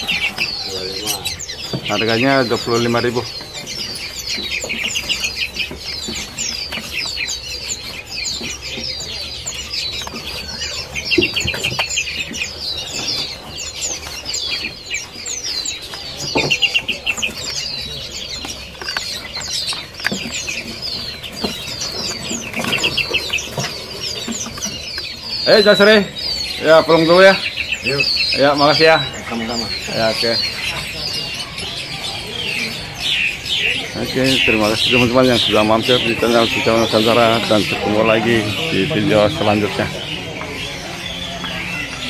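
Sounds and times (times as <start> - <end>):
rapid bird trill: 0.0 - 42.0
songbirds chirping: 0.0 - 42.0.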